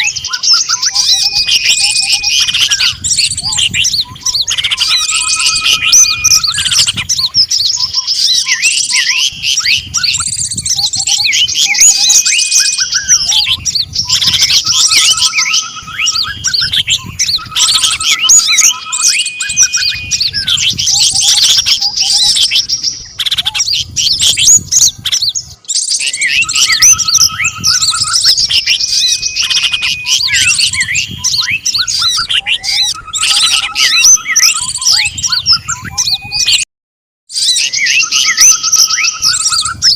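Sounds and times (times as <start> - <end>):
songbirds chirping and trilling: 0.0 - 36.7, 37.3 - 39.9.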